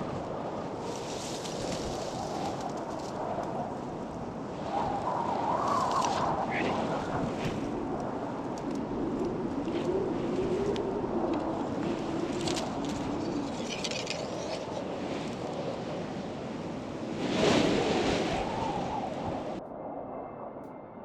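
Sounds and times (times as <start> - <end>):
wind rushing across microphone: 0.0 - 20.6.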